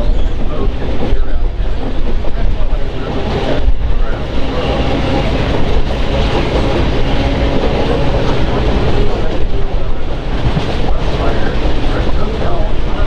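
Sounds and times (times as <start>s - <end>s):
clickety-clack of train wheels: 0.0s - 13.0s
train wheels rumbling on rail: 0.0s - 13.0s.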